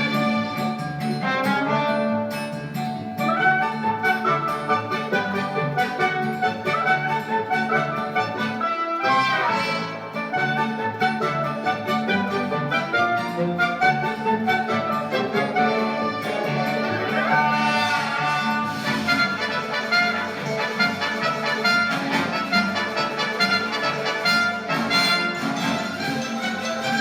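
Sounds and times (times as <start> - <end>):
orchestral music with brass and strings: 0.0 - 27.0.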